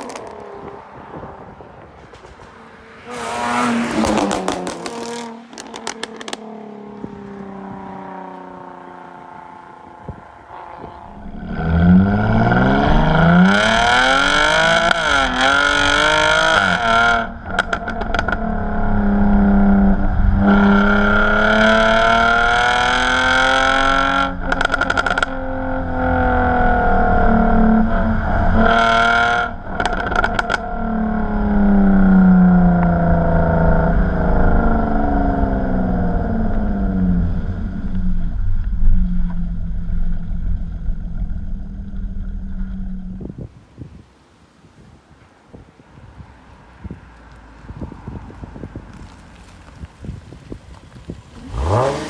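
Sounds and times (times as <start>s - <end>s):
car engine revving: 0.0s - 43.4s, 51.0s - 52.0s
exhaust crackling: 0.0s - 43.6s, 46.7s - 52.0s.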